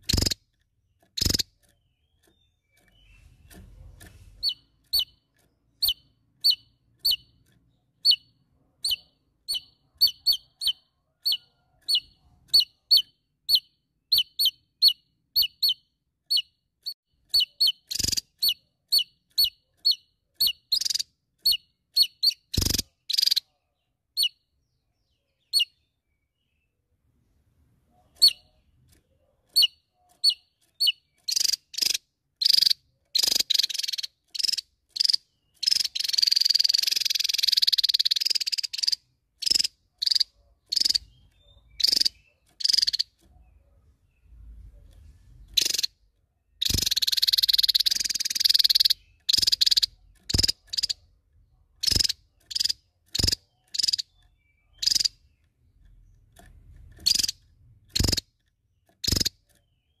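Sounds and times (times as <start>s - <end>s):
bird calling sharp slurred notes: 0.0s - 23.5s, 28.1s - 28.6s, 29.5s - 43.3s, 45.5s - 51.1s, 51.8s - 55.4s, 57.0s - 60.0s.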